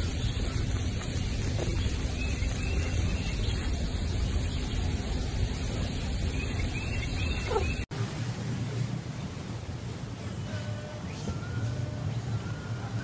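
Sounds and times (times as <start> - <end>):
steady noisy background: 0.0 - 13.0.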